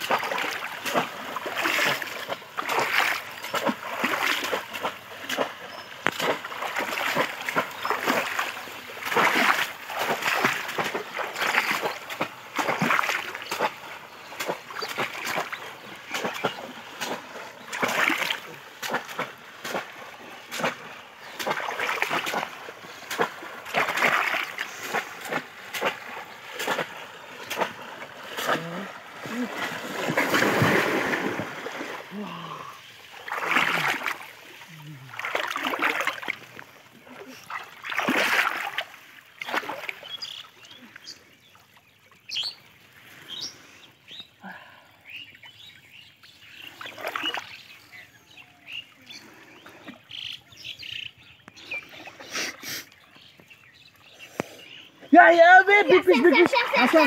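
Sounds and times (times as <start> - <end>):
water splashing and sloshing: 0.0 - 57.0.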